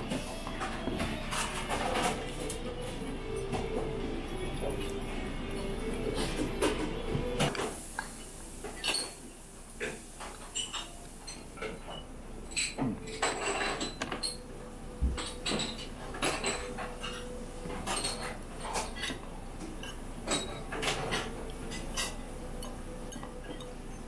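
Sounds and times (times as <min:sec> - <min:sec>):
dishes and cutlery clinking: 0:00.0 - 0:24.0.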